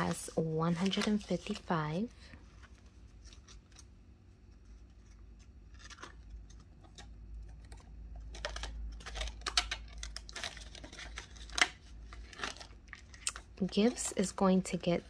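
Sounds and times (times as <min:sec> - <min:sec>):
paper banknotes rustling: 0:00.0 - 0:15.0.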